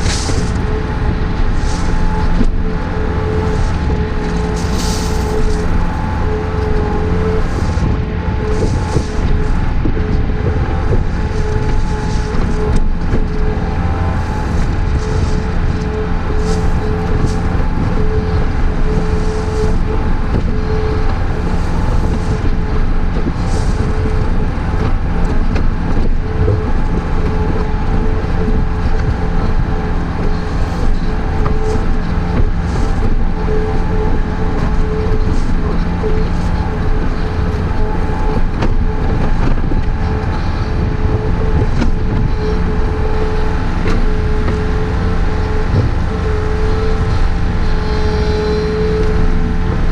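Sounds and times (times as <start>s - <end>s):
excavator diesel engine rumble: 0.0s - 49.9s
hydraulic whine: 0.0s - 49.9s.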